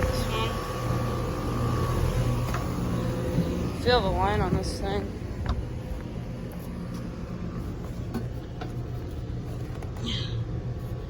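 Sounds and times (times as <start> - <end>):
compressor low hum: 0.0 - 11.0
condenser fans whooshing: 0.0 - 11.0.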